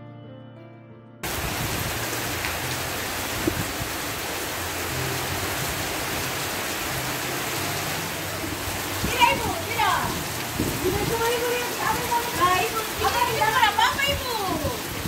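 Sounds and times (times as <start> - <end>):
heavy rain hissing: 1.2 - 15.0.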